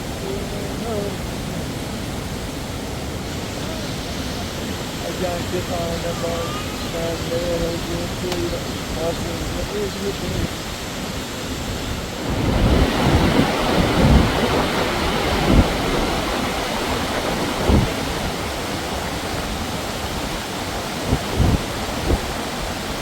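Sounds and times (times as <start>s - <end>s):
waterfall roaring: 0.0s - 23.0s
wind buffeting microphone: 0.0s - 23.0s.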